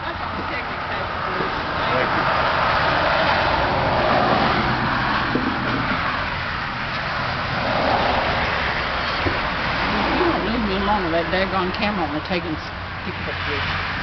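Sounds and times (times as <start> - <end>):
cars passing on street: 0.0 - 14.0.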